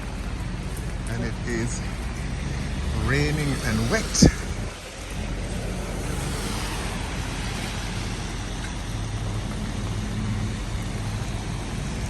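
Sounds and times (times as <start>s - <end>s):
low vehicle engine hum: 0.0s - 12.0s
rain hissing: 0.0s - 12.0s
tyres on wet pavement: 0.0s - 12.0s.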